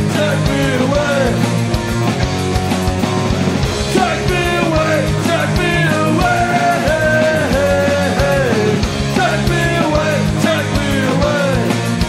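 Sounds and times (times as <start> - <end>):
melodic guitar lead line: 0.0 - 12.0
punk band playing: 0.0 - 12.0.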